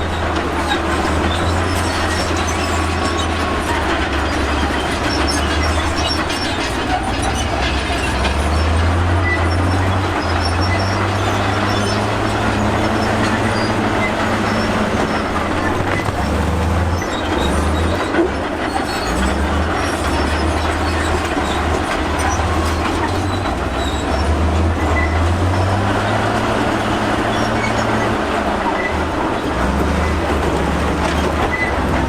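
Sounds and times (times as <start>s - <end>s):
bulldozer diesel engine running: 0.0s - 32.0s
steel tracks clanking and squealing: 0.0s - 32.0s.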